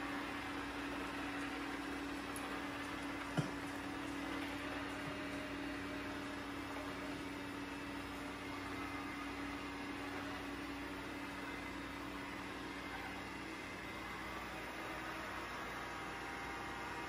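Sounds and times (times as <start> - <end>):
robot vacuum motor hum: 0.0 - 17.0.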